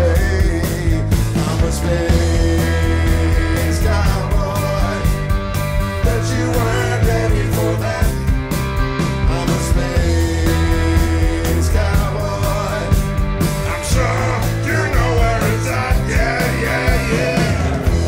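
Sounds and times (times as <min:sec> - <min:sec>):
drums: 0:00.0 - 0:18.0
electric bass: 0:00.0 - 0:18.0
electric guitar: 0:00.0 - 0:18.0.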